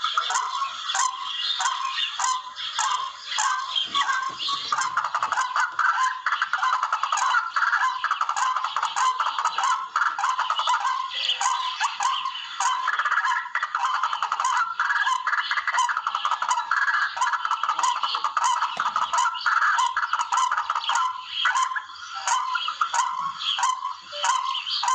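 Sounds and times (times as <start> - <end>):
rattling bird calls: 0.0 - 24.9.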